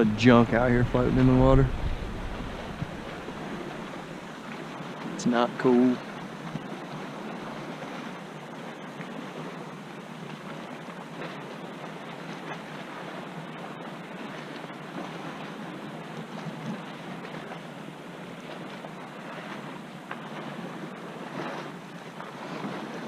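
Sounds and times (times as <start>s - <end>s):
river water splashing on kayak: 0.0s - 23.0s.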